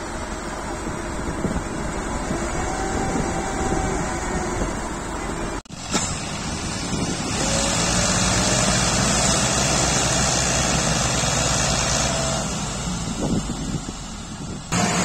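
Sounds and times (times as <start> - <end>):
tractor engines straining: 0.0 - 15.0.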